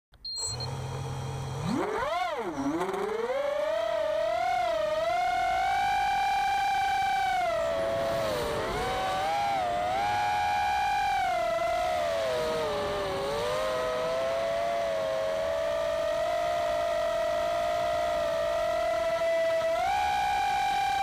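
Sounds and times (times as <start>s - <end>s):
quadcopter motors whining: 0.3s - 21.0s.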